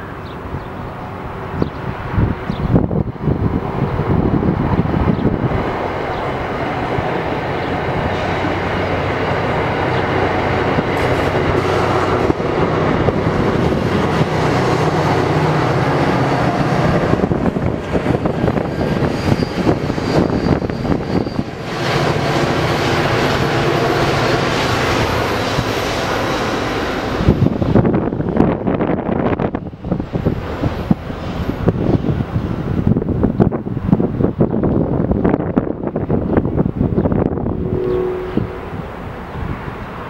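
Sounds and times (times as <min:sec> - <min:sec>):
diesel locomotive engine hum: 0:00.0 - 0:40.0
train wheels rumbling on rail: 0:00.0 - 0:40.0.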